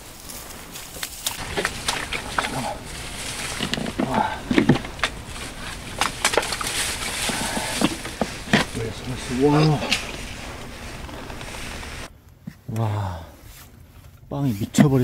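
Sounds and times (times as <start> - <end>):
brief rustling: 0.0 - 12.1.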